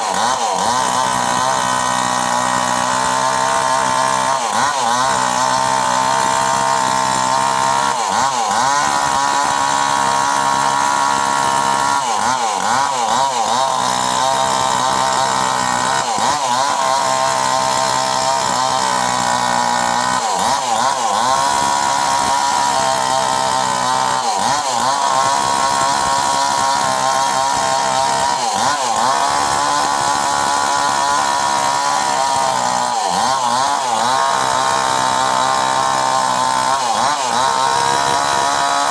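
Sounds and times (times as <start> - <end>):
mini chainsaw running: 0.0 - 38.9.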